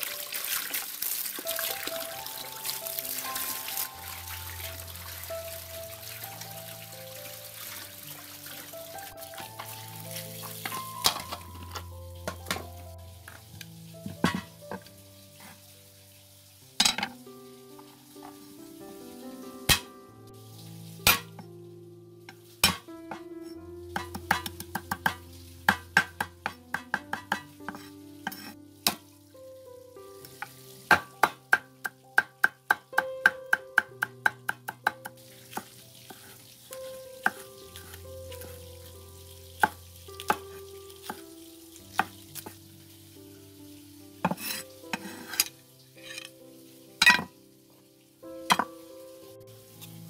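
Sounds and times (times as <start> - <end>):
soft background music: 0.0 - 50.0.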